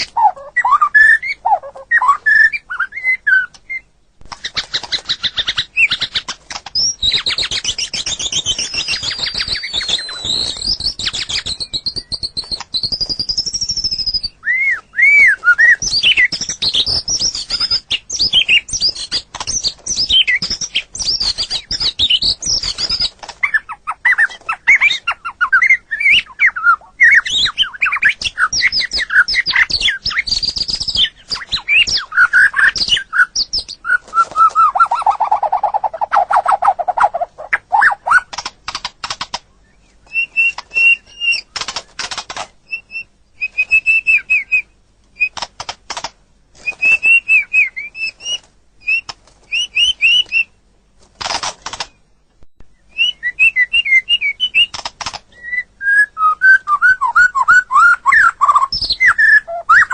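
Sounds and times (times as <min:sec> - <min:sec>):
songbird singing varied song: 0:00.0 - 0:38.4, 0:39.5 - 0:42.0, 0:42.6 - 0:45.4, 0:46.6 - 0:50.6, 0:51.8 - 0:59.9.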